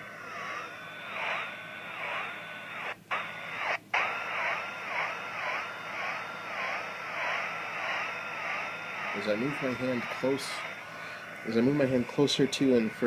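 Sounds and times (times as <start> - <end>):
receiver hiss: 0.0 - 13.0
radio beat-note whistle: 0.3 - 13.0.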